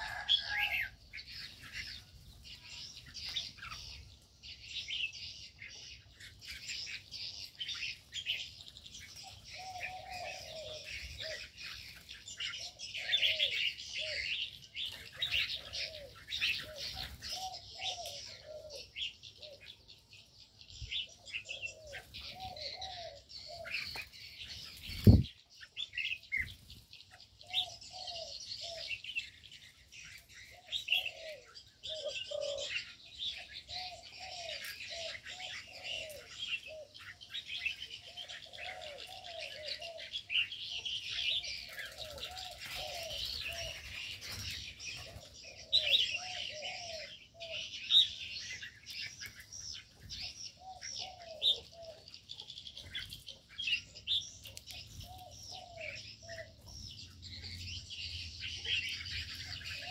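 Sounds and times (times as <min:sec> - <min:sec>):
dove cooing: 0:00.0 - 0:04.2, 0:05.2 - 0:20.1, 0:20.9 - 0:25.2, 0:27.4 - 0:29.3, 0:30.0 - 0:59.9
birds chirping and chattering: 0:00.0 - 0:59.9.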